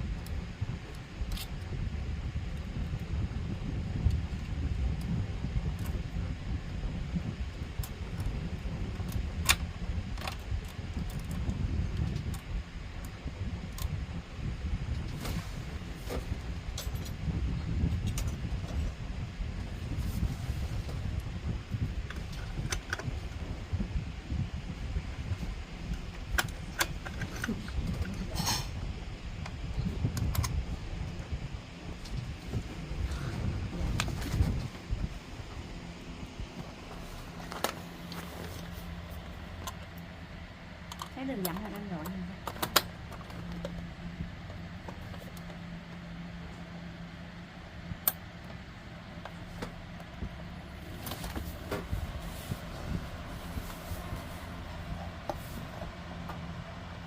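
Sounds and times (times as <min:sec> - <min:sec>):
low rumbling background: 0:00.0 - 0:57.0
steady low hum: 0:00.0 - 0:57.0.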